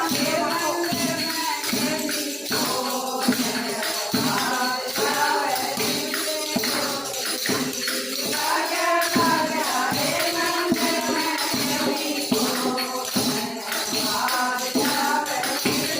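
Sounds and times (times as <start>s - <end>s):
tambourine jingle: 0.0s - 15.9s.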